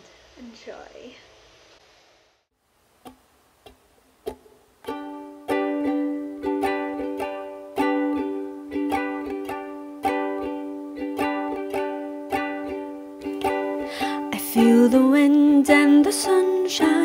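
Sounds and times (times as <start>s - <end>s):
ukulele strumming chords: 3.1s - 17.0s.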